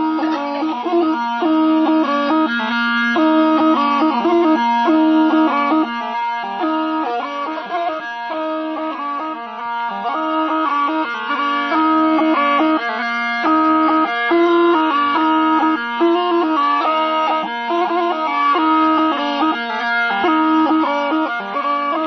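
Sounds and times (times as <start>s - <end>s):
gourd trumpet melody over drone: 0.0s - 22.0s.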